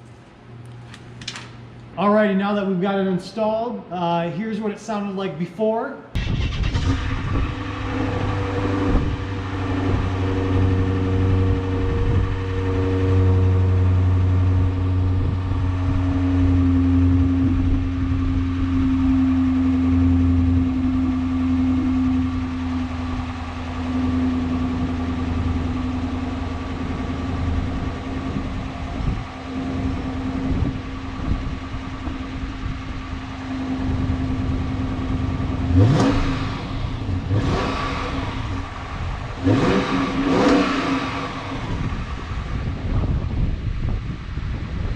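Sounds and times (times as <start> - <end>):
car engine idling: 6.2 - 44.9.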